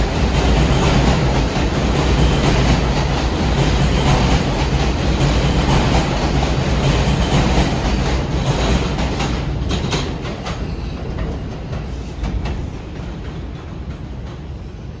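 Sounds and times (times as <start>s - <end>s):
wheels clacking over rail joints: 0.0s - 14.5s
subway train rumbling: 0.0s - 15.0s.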